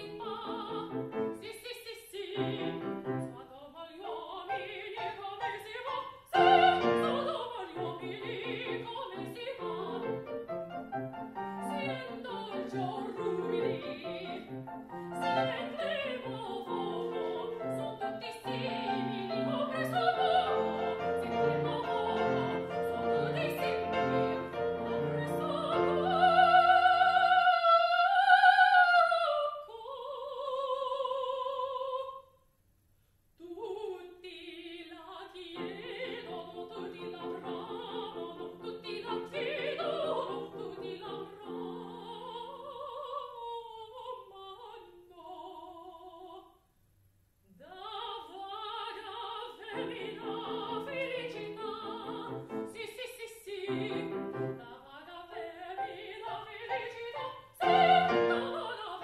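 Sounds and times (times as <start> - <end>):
woman singing opera: 0.0 - 10.6, 11.3 - 32.3, 33.4 - 46.6, 47.5 - 59.0
grand piano: 0.0 - 29.4, 35.2 - 43.3, 48.7 - 59.0.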